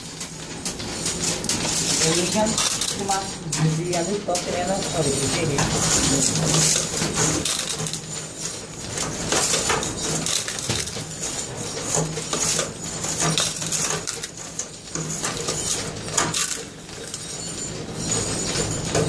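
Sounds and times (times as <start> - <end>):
metal scrap clattering into bucket: 1.4 - 3.7, 4.9 - 19.0.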